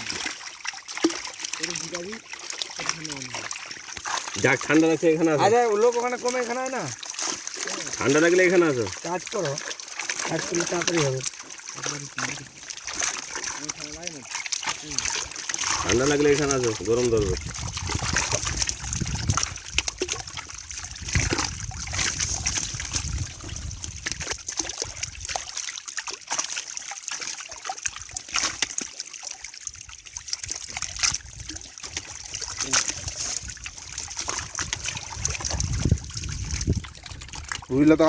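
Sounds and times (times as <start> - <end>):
pond water splashing and trickling: 0.0 - 38.0.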